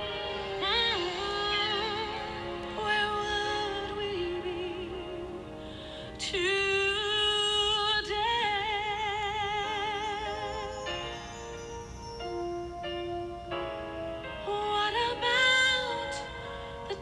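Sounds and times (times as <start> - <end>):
instrumental accompaniment: 0.0 - 7.1, 8.3 - 17.0
person singing with vibrato: 0.0 - 17.0.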